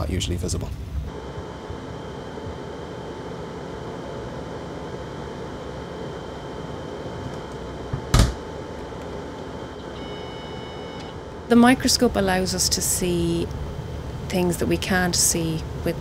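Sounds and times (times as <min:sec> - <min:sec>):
faint steady whine: 0:00.0 - 0:16.0
lab equipment fan hum: 0:00.0 - 0:16.0.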